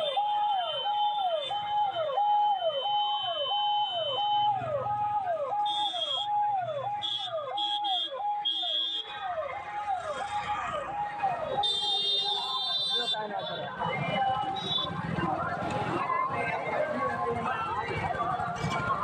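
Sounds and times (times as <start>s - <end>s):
ambulance siren wailing: 0.0s - 19.0s.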